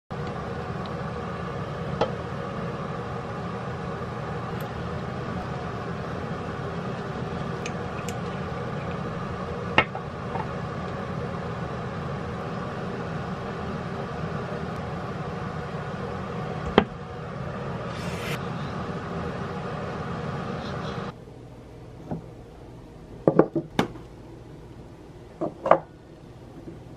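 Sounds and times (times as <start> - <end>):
mechanical hum: 0.1 - 26.9.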